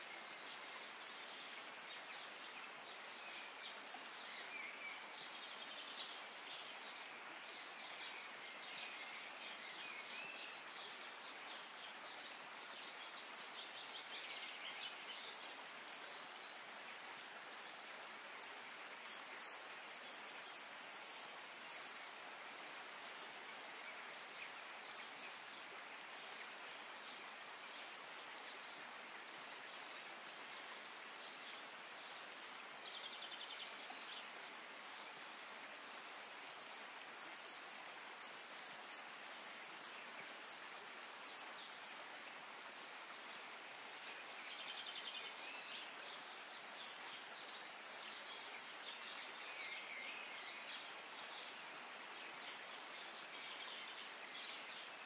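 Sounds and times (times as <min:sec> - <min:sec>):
steady soft hiss: 0:00.0 - 0:55.0.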